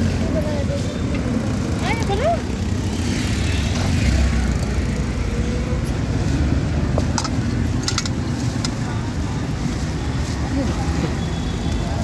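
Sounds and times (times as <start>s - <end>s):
street rumble: 0.0s - 12.0s.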